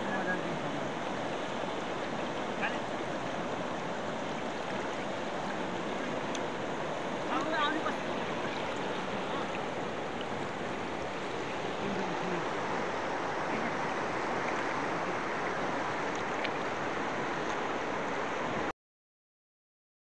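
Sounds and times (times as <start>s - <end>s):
river water rushing and lapping: 0.0s - 18.7s.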